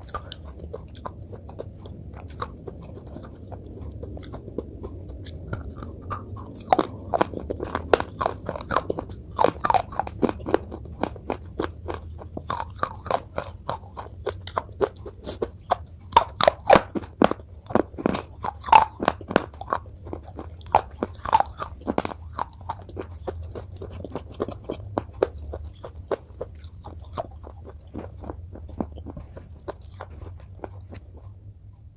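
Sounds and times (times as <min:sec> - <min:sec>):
crunchy chewing: 0:00.0 - 0:31.9.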